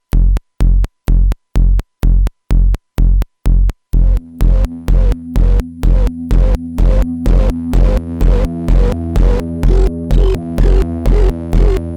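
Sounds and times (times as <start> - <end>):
kick-drum-like thump: 0.1 - 11.9.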